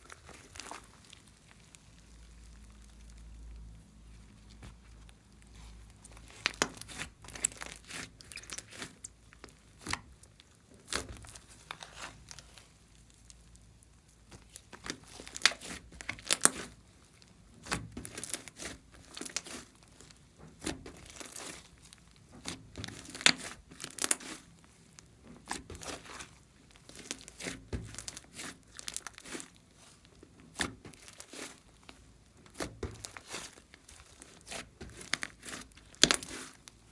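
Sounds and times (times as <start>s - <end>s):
slime with beads crackling: 0.0s - 36.9s.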